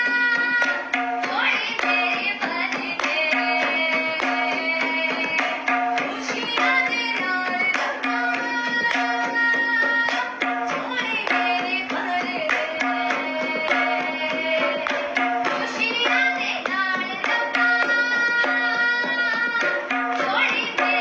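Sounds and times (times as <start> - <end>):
tabla drumming: 0.0 - 21.0.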